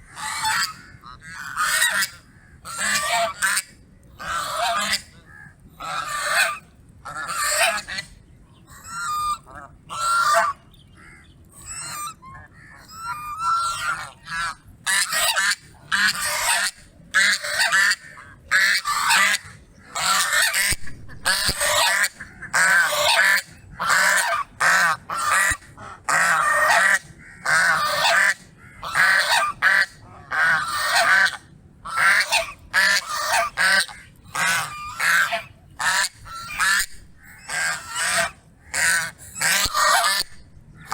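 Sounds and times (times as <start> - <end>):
goose honking: 0.0 - 40.9.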